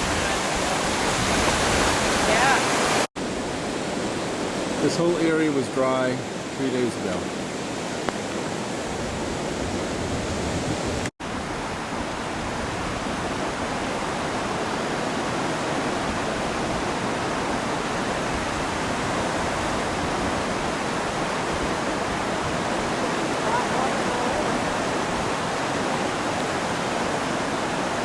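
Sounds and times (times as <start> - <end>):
flood water rushing: 0.0 - 28.0.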